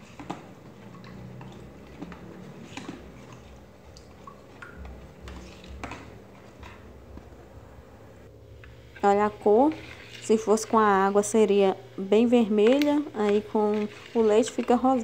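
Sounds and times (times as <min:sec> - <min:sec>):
spoon stirring liquid in bowl: 0:00.0 - 0:07.4, 0:08.6 - 0:11.4, 0:12.5 - 0:15.0
liquid sloshing: 0:00.0 - 0:07.5, 0:08.9 - 0:11.3, 0:12.6 - 0:15.0.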